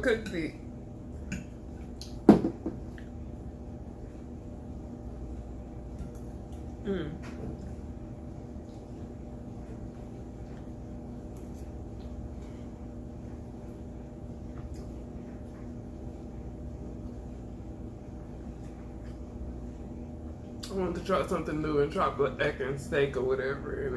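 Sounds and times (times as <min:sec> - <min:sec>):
low room hum: 0:00.0 - 0:23.9.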